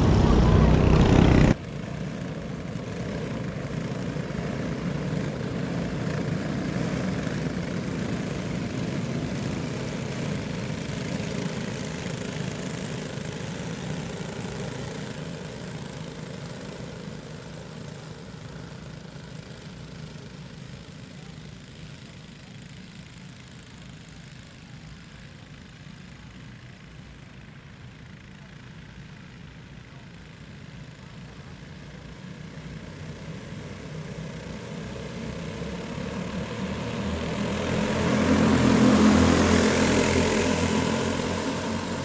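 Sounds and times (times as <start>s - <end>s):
go-kart engines droning: 0.0s - 26.4s, 28.0s - 42.0s.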